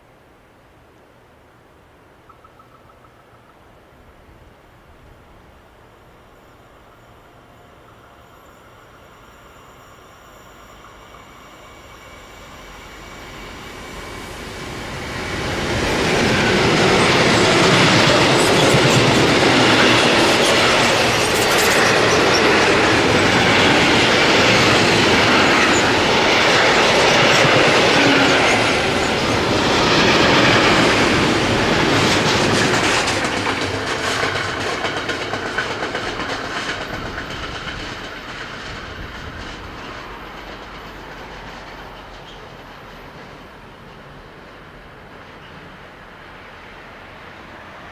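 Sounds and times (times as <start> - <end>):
electric train passing at speed: 4.4 - 47.9.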